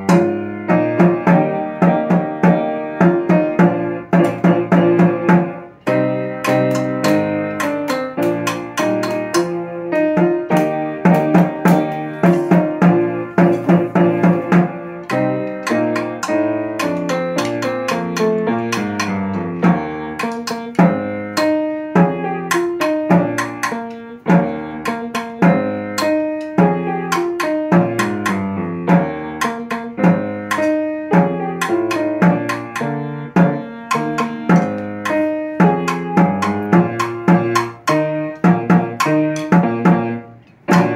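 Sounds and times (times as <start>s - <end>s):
snare drum strokes: 0.0s - 40.9s.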